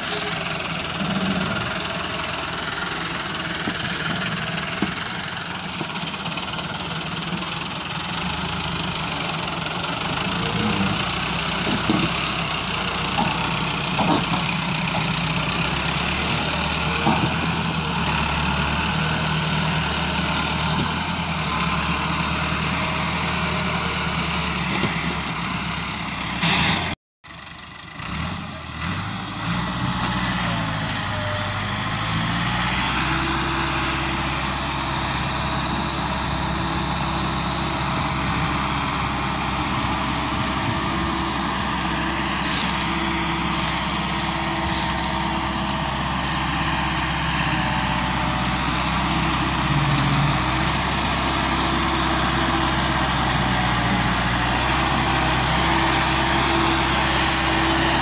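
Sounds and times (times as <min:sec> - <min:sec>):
tractor diesel engine straining: 0:00.0 - 0:58.0.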